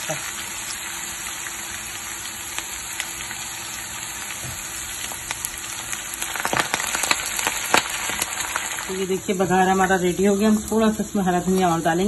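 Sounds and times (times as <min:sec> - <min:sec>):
oil crackling and popping: 0:00.0 - 0:11.9
hot oil sizzling in frying pan: 0:00.0 - 0:12.0.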